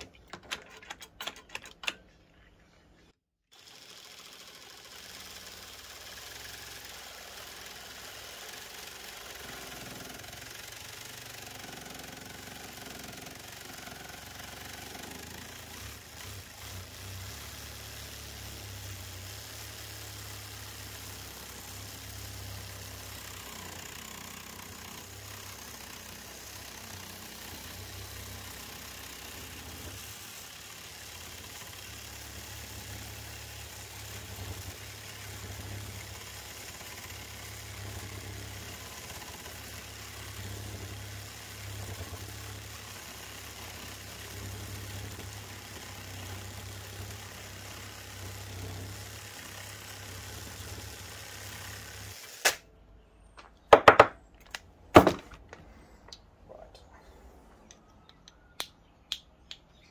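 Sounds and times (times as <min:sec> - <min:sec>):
reciprocating saw cutting metal: 0:03.6 - 0:52.6.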